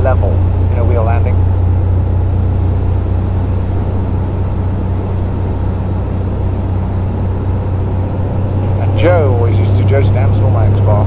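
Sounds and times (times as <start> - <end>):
aircraft engine and propeller drone: 0.0 - 11.0
airflow noise: 0.0 - 11.0.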